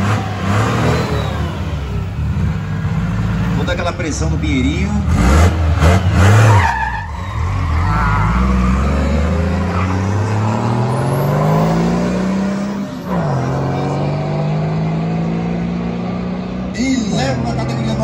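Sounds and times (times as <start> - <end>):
pickup engine revving: 0.0 - 18.0.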